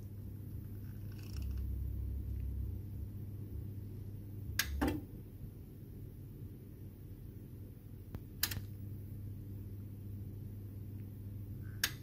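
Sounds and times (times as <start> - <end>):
faint low fan hum: 0.0 - 12.0.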